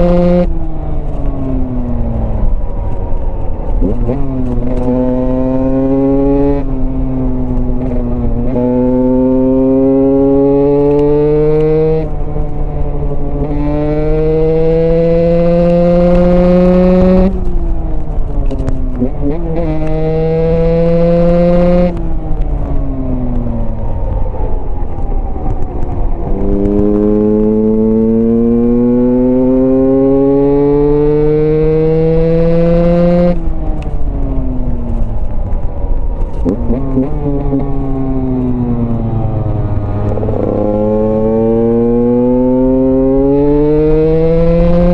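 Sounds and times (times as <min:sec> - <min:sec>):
motorcycle engine revving through gears: 0:00.0 - 0:44.9.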